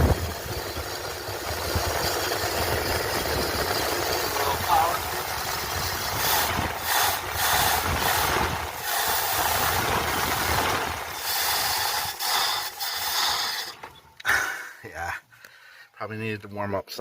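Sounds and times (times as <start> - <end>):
car engine running rough: 0.0 - 14.0.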